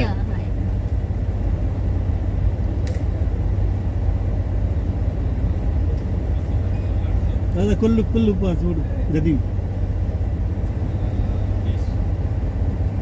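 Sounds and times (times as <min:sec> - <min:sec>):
car idling from inside: 0:00.0 - 0:13.0.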